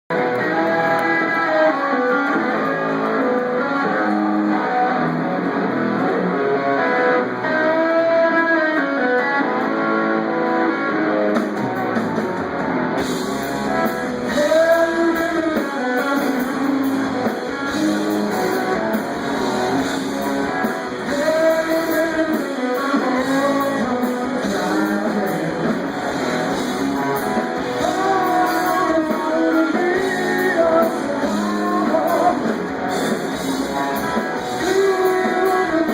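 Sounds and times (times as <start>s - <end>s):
electric guitar: 0.0s - 35.9s
live rock band playing: 0.1s - 35.9s.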